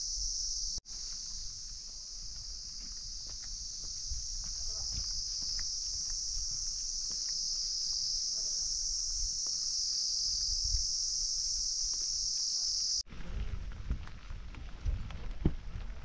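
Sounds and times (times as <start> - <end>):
shrill insect chorus: 0.0 - 13.0.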